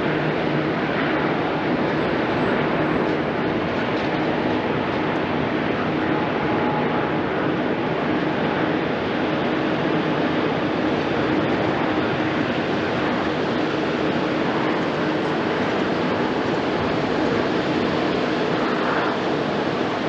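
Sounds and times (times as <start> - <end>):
jet engine roar at takeoff: 0.0 - 20.0.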